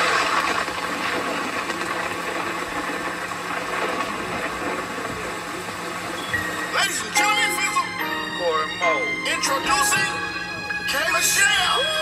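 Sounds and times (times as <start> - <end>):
rain-like rushing hiss: 0.0 - 12.0.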